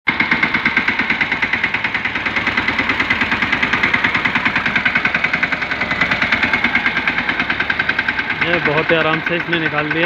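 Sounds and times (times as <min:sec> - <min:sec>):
tractor diesel engine chugging: 0:00.1 - 0:10.0.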